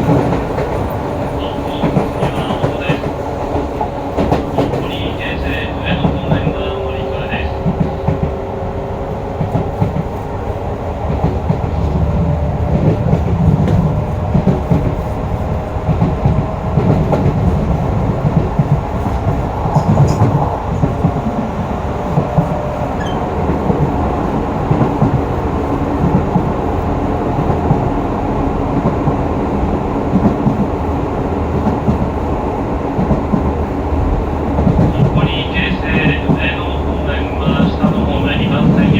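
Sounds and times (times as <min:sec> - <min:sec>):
clickety-clack over rail joints: 0:00.0 - 0:38.9
train wheels rumbling on rail: 0:00.0 - 0:38.9.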